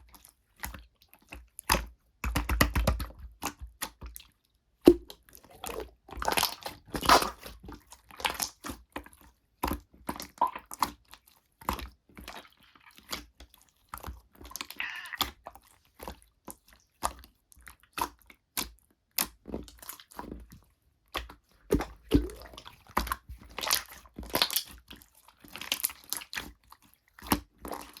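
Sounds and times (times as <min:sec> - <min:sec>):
squishing: 0:03.1 - 0:28.0.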